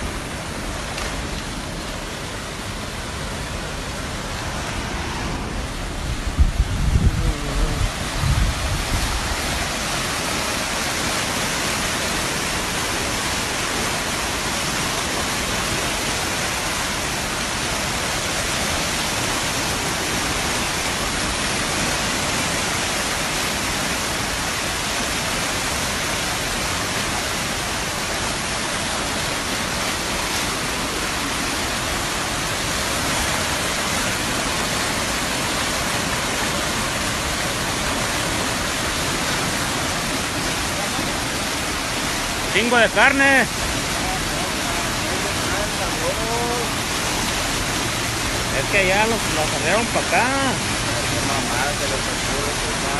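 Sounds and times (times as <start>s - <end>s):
flooded river rushing: 0.0s - 52.9s.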